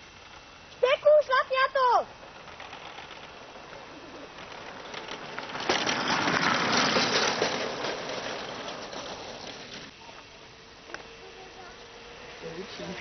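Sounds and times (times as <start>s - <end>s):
plastic wheels rolling on asphalt: 0.0s - 13.0s.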